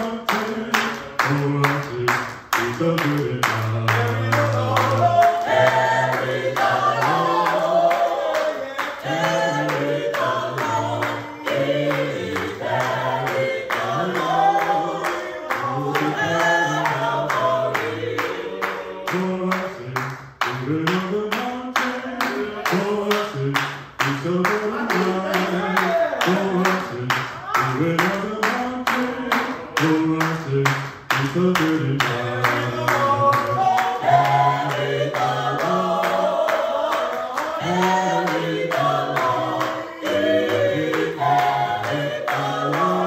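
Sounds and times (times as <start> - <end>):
gospel choir singing: 0.0 - 43.0
rhythmic hand-clapping: 0.0 - 43.0.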